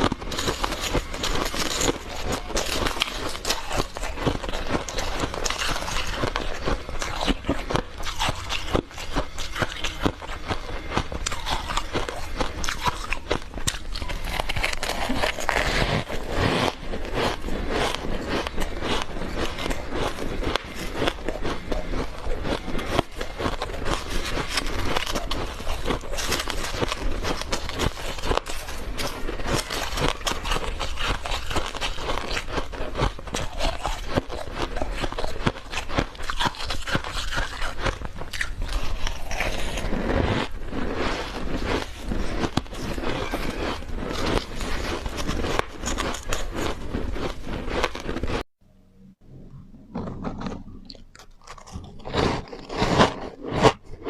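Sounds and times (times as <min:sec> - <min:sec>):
chewing ice crunches: 0:00.0 - 0:48.5, 0:50.0 - 0:54.0.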